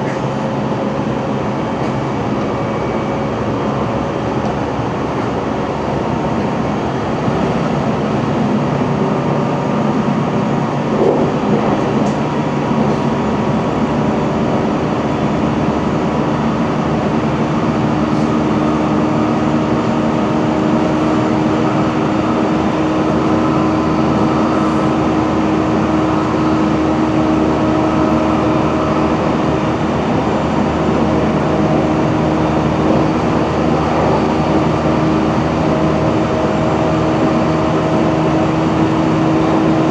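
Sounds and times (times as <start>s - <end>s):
wheels rolling on rail: 0.0s - 39.9s.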